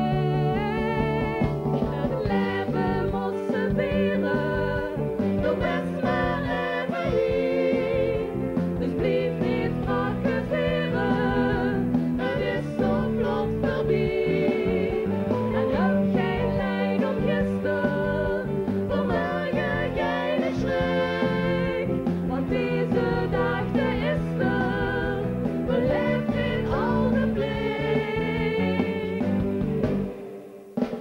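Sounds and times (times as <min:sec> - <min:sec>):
instrumental accompaniment: 0:00.0 - 0:31.0.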